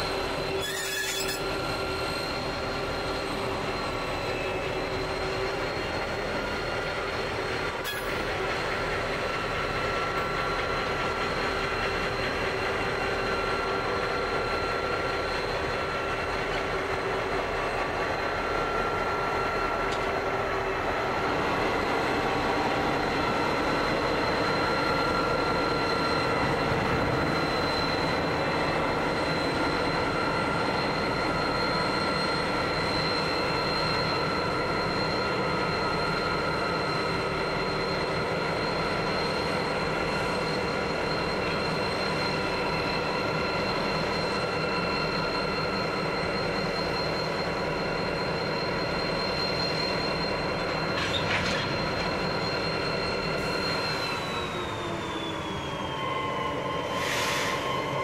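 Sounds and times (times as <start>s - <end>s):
diesel locomotive engine rumble: 0.0s - 58.0s
high-pitched whines: 0.0s - 58.0s.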